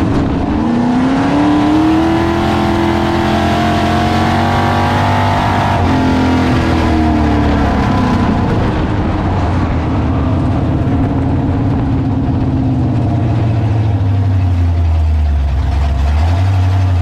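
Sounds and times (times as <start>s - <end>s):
race car engine rumbling: 0.0s - 17.0s.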